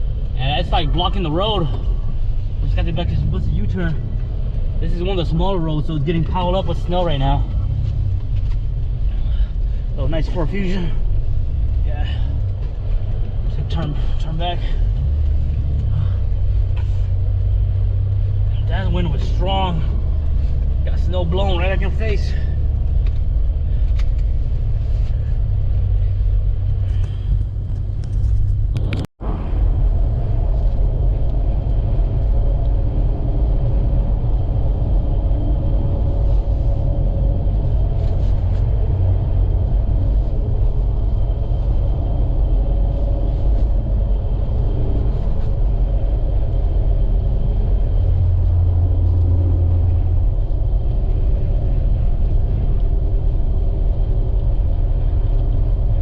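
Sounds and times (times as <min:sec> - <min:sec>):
vehicle road and engine rumble: 0:00.0 - 0:56.0
wind buffeting: 0:01.8 - 0:56.0.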